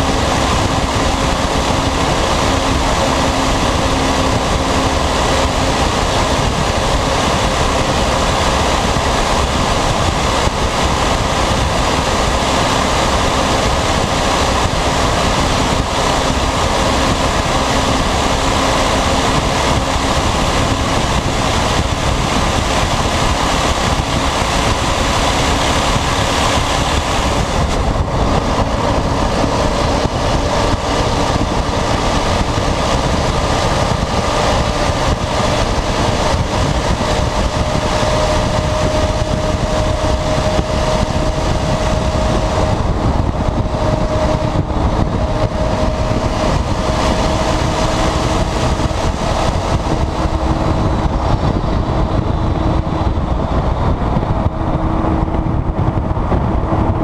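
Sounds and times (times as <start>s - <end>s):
loud diesel truck engine: 0.0s - 57.0s
road and air noise: 0.0s - 57.0s.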